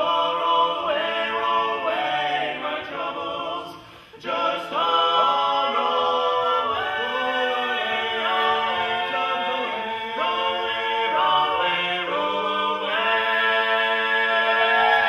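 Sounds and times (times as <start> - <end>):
male quartet singing a cappella: 0.0 - 15.0.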